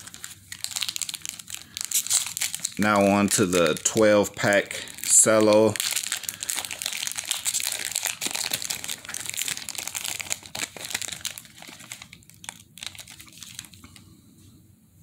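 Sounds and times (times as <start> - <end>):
cellophane wrapper crinkling: 0.0 - 14.1.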